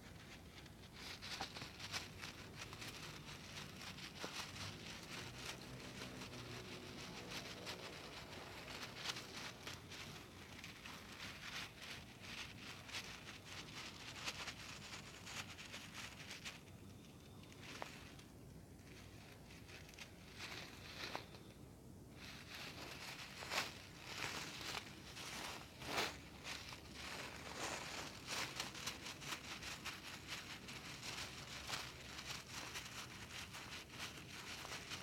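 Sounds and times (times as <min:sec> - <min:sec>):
crackling and scratching on microphone: 0:00.0 - 0:21.5, 0:22.2 - 0:35.0.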